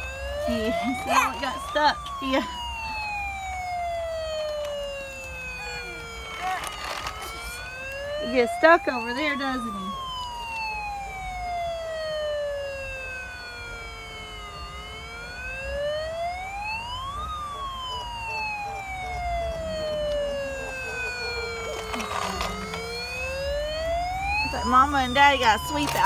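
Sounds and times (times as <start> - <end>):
toy siren wailing: 0.0 - 26.0.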